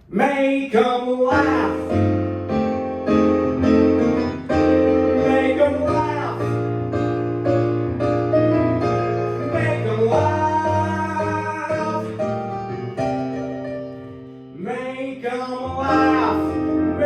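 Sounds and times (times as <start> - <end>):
piano show tune: 0.0 - 17.0.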